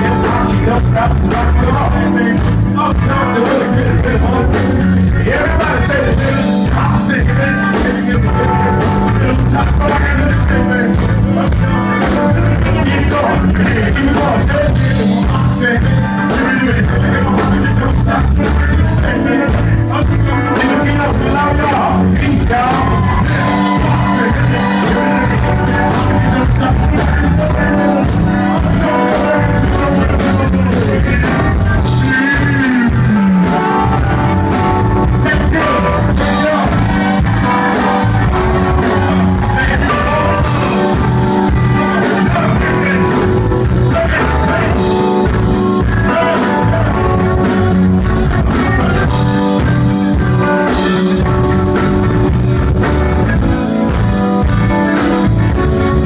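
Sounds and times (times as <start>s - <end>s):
drums: 0.0s - 56.0s
electric bass: 0.0s - 56.0s
live band playing: 0.0s - 56.0s
person singing: 0.0s - 56.0s.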